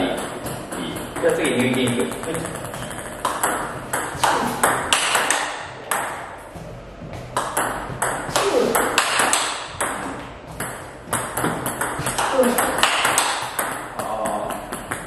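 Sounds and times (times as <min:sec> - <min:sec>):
table tennis ball clicking: 0:00.2 - 0:06.2, 0:07.4 - 0:10.0, 0:10.6 - 0:15.0.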